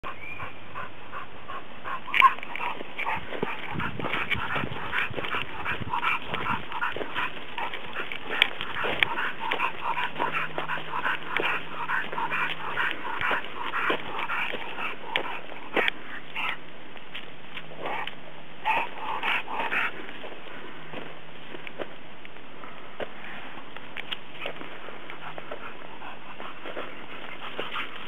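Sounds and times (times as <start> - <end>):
dog panting: 0.0 - 16.6, 17.8 - 21.1, 24.3 - 28.0.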